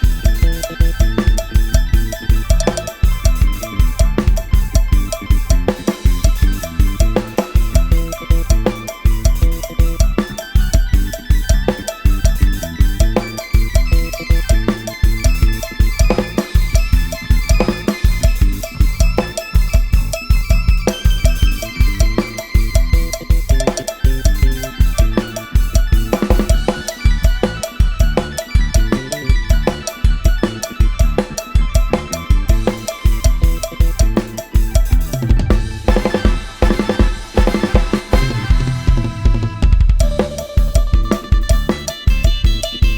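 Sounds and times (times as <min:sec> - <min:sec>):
bass line: 0:00.0 - 0:42.9
drum kit beat: 0:00.0 - 0:42.9.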